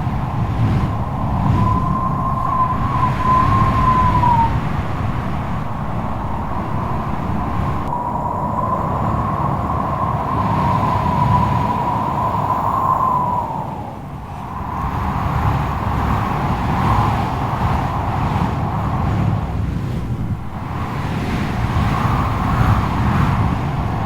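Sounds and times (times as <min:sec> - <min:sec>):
high whistling wind howl: 0:00.0 - 0:24.0
strong wind rumble: 0:00.0 - 0:24.0.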